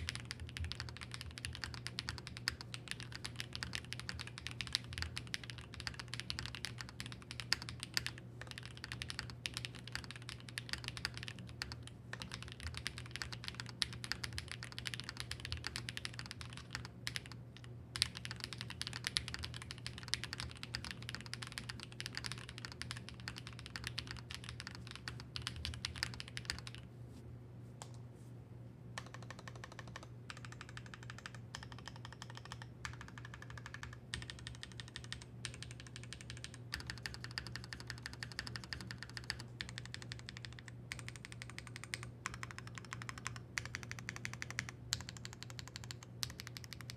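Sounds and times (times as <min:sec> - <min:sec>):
typing on mechanical keyboard: 0:00.0 - 0:26.8, 0:29.0 - 0:46.9
low steady hum: 0:00.0 - 0:46.9.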